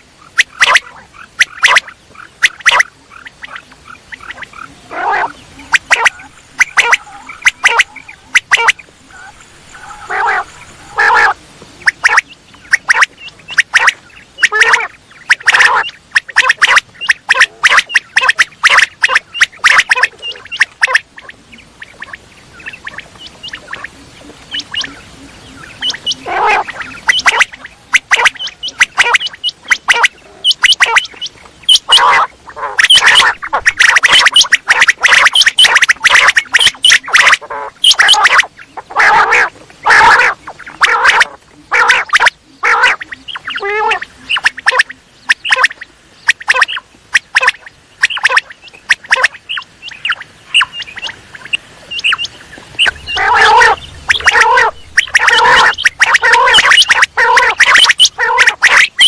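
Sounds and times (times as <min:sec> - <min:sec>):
quail calling: 0:00.0 - 0:59.0.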